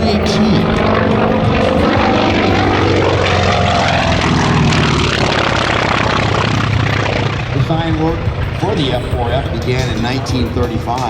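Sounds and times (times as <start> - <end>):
propeller plane flying by: 0.0 - 11.0.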